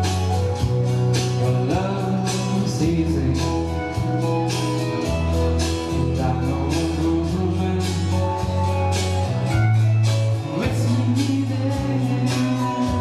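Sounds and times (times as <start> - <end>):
keyboard instrumental music: 0.0 - 13.0.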